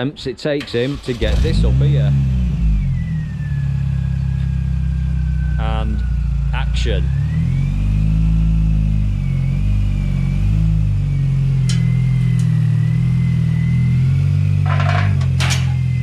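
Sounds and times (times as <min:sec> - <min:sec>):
car engine revving: 0:00.9 - 0:16.0.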